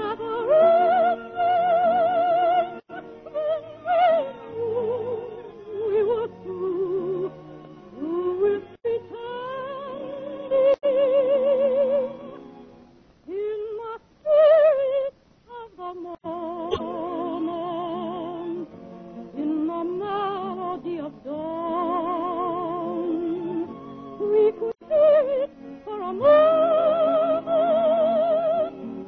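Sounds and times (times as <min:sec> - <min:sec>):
woman singing soprano: 0:00.0 - 0:07.3, 0:08.0 - 0:12.4, 0:13.3 - 0:18.7, 0:19.4 - 0:28.8.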